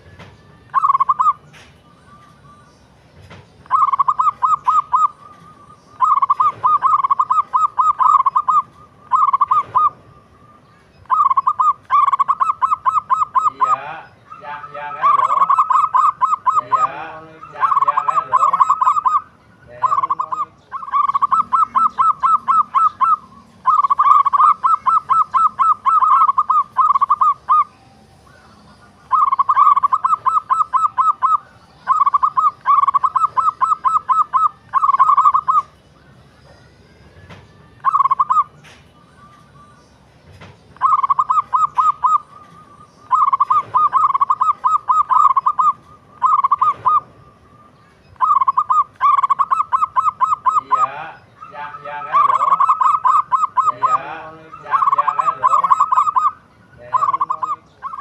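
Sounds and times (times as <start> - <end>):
dove cooing: 0.0 - 2.6, 3.2 - 58.0.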